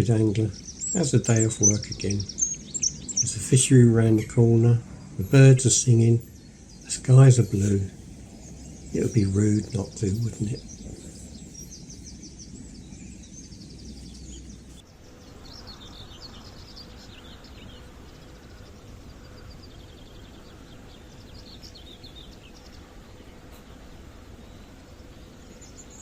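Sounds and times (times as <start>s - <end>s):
birds singing: 0.0s - 26.0s
low outdoor background noise: 0.0s - 26.0s.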